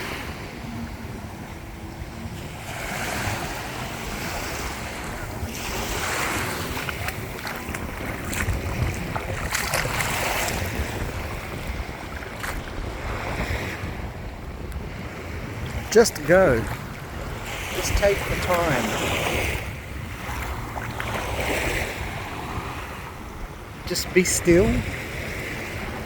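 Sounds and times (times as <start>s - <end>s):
small waves washing on sand: 0.0s - 26.0s
wind rumbling on microphone: 0.0s - 26.0s.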